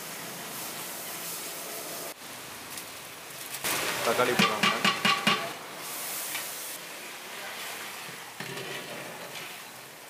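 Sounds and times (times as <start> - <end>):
food sizzling in pot: 0.0 - 10.0.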